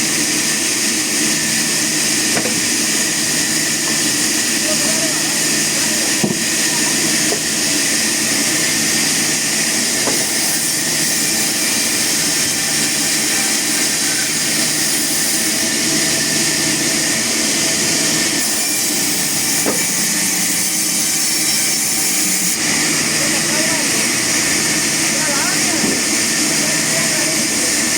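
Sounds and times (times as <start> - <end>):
wood-milling machinery running: 0.0 - 27.9.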